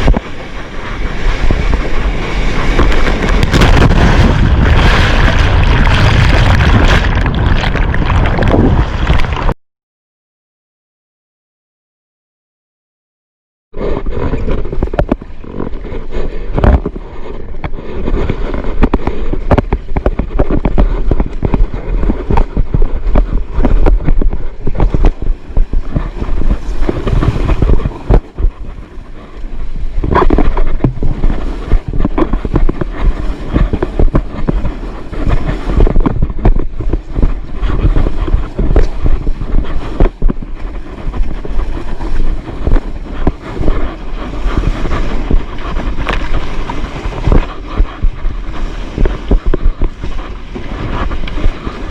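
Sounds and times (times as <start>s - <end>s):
surf crashing: 0.0s - 9.5s, 13.8s - 51.9s
thumps and splashes: 0.0s - 9.6s, 13.8s - 51.9s
wind buffeting microphone: 0.0s - 9.6s, 13.8s - 51.9s.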